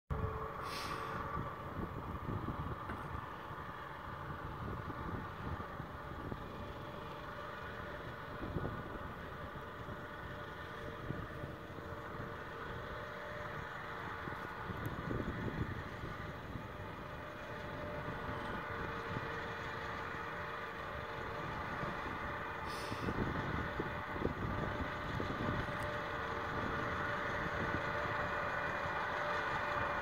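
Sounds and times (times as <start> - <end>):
locomotive engine running: 0.1 - 30.0.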